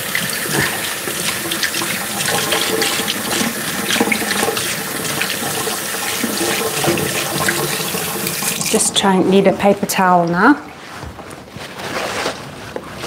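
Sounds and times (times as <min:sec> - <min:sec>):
tap water running: 0:00.0 - 0:10.8.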